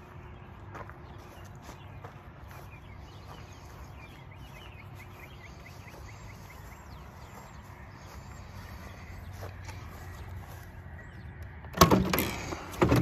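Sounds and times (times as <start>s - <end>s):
footsteps on grass: 0.0s - 11.7s.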